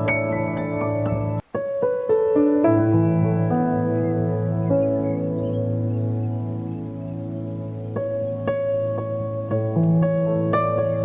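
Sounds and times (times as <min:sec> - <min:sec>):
ambient keyboard music: 0:00.0 - 0:11.0.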